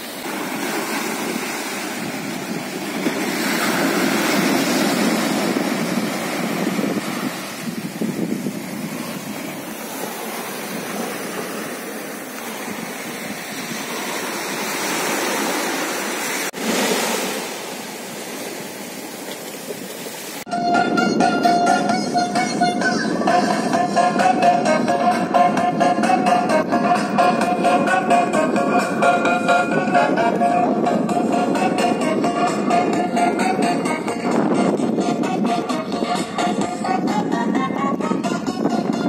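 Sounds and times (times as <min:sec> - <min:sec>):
sea surf on rocky shore: 0:00.0 - 0:39.0.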